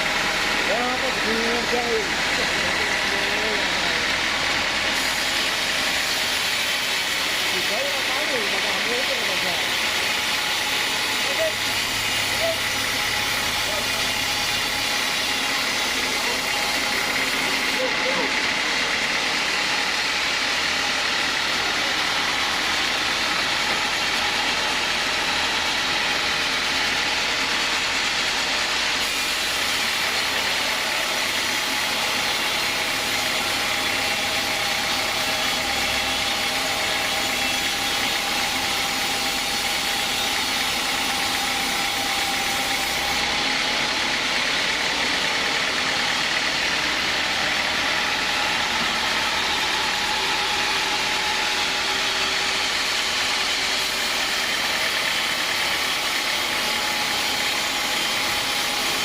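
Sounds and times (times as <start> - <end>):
sawmill machine drone and whine: 0.0 - 59.0.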